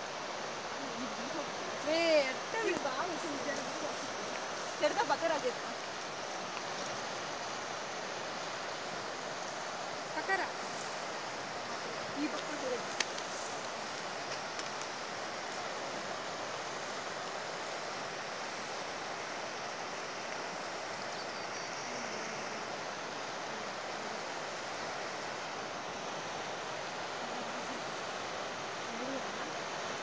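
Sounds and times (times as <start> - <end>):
river rushing in flood: 0.0 - 30.0.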